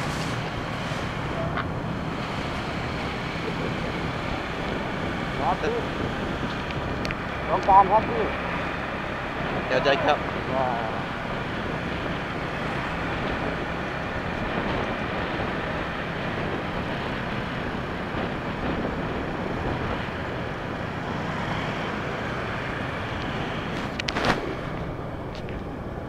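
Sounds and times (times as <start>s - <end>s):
road and traffic noise: 0.0s - 26.0s.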